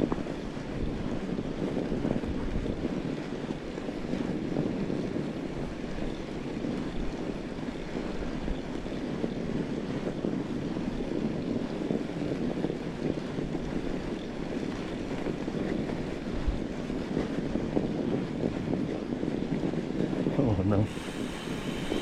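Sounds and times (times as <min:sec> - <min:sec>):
bike tyres rolling over snow: 0:00.0 - 0:22.0
wind buffeting microphone: 0:00.0 - 0:22.0.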